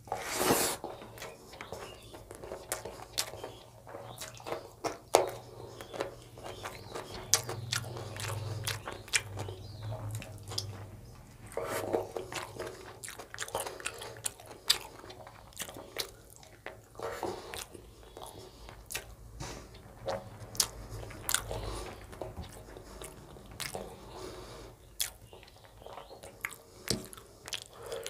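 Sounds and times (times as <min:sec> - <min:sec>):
man chewing: 0:00.0 - 0:28.0
lip smacks and clicks: 0:01.2 - 0:24.3, 0:25.0 - 0:28.0.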